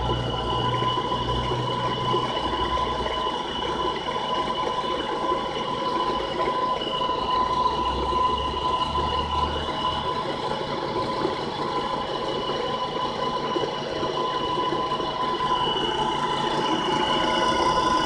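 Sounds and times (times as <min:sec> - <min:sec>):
water pump motor whine: 0:00.0 - 0:18.0.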